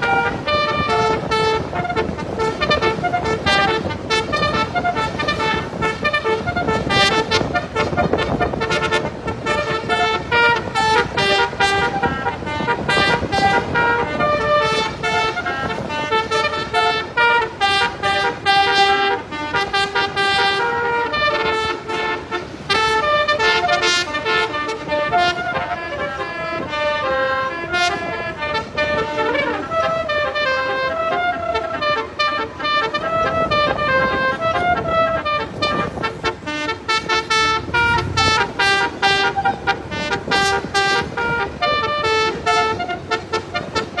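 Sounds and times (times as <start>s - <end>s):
multi-tone air horn tune: 0.0s - 44.0s.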